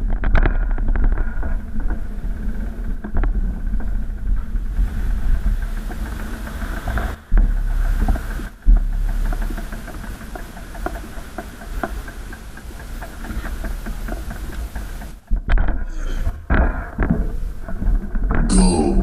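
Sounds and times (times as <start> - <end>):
wind and road rumble: 0.0 - 18.5.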